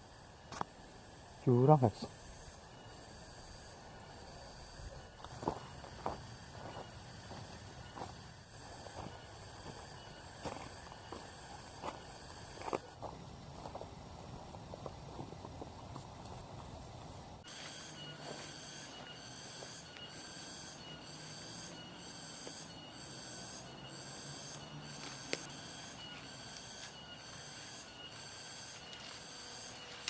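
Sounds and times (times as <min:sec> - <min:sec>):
insect chirring: 0:00.0 - 0:15.1, 0:16.0 - 0:30.0.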